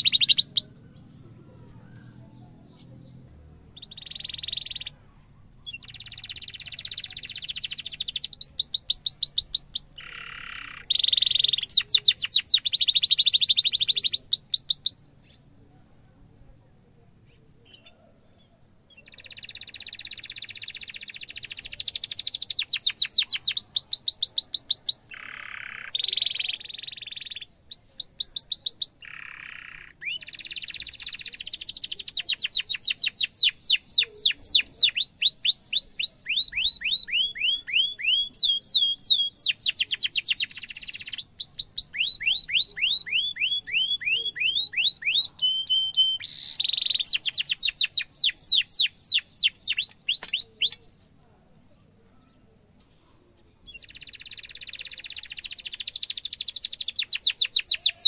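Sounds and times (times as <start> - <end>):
canary singing: 0.0 - 1.1, 1.7 - 15.4, 18.9 - 51.0, 53.7 - 58.0.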